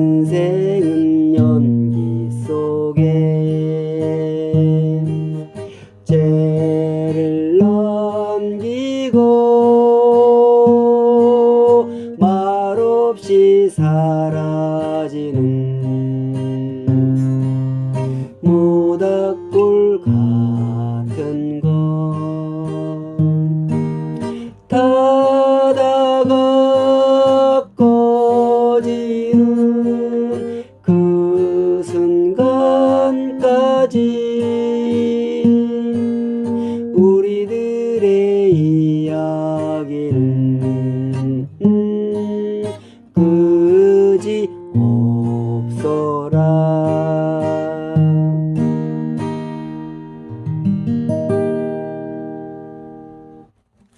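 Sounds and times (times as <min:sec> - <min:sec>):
person singing folk song: 0:00.0 - 0:53.9
strummed acoustic guitar: 0:00.0 - 0:53.9.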